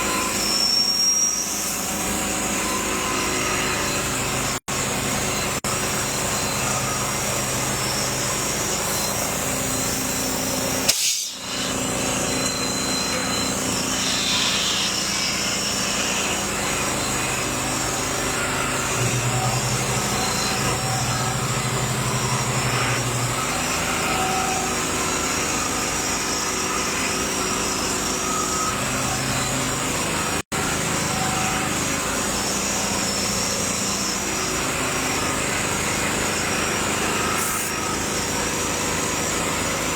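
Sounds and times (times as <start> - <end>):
small motor running: 0.0 - 39.9.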